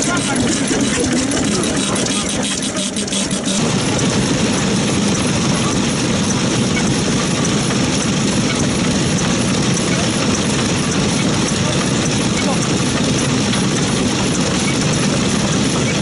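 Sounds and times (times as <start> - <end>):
stationary engines chugging: 0.0 - 16.0.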